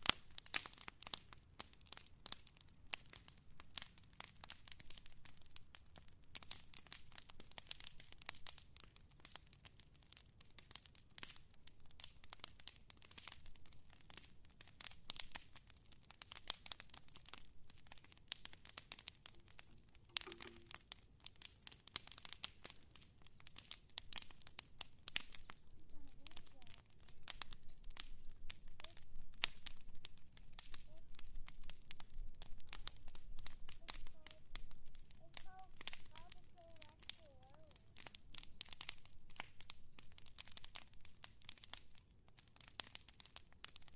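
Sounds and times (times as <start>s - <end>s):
fire crackling: 0.0s - 43.9s.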